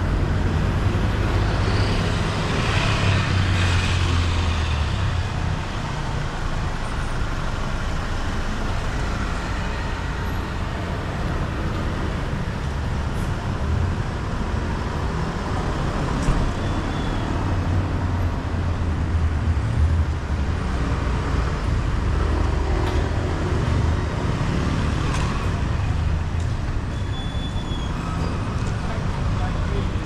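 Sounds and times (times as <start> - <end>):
street traffic rumble: 0.0 - 30.0.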